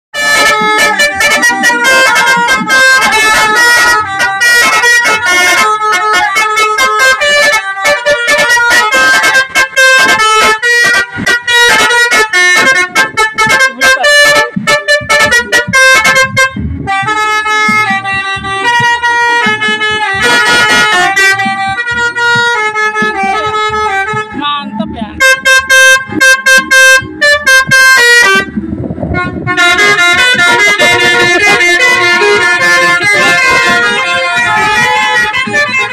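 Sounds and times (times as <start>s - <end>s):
multi-tone bus air horn tune: 0.1s - 35.9s.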